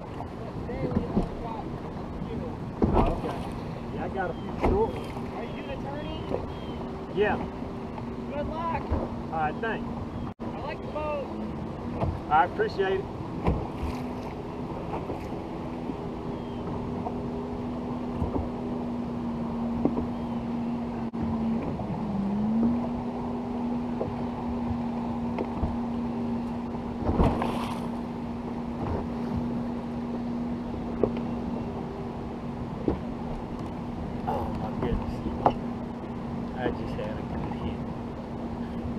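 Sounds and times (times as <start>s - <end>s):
boat motor humming: 0.0s - 38.9s
water noise: 0.0s - 38.9s
wind: 0.0s - 38.9s.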